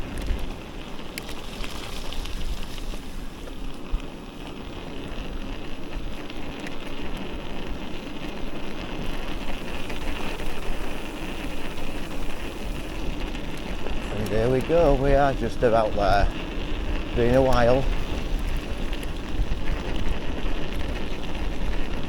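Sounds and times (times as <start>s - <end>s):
tyres rolling over trail: 0.0s - 22.0s
wind on microphone: 0.0s - 22.0s.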